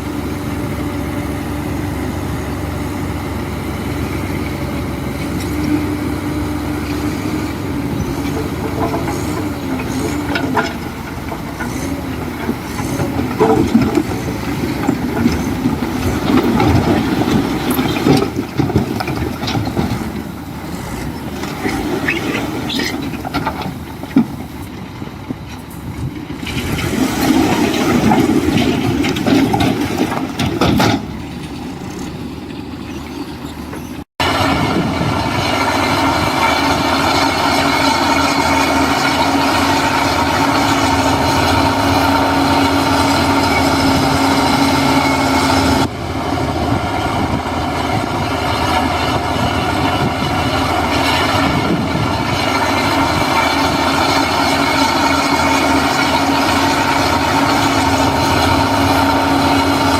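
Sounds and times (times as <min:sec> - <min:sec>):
diesel engine running: 0:00.0 - 0:59.9
machinery clanking: 0:00.0 - 0:59.9.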